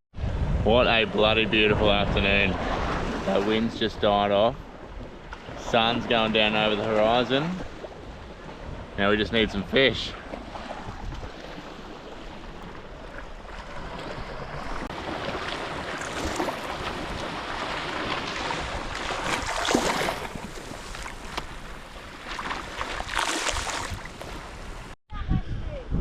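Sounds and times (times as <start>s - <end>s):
surf washing onto beach: 0.2s - 25.0s
waves breaking: 0.2s - 25.0s.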